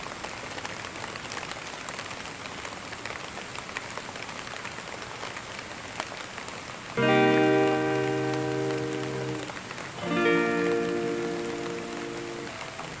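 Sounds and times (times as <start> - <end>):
steady rain hiss: 0.0 - 13.0
raindrop ticks: 0.2 - 13.0.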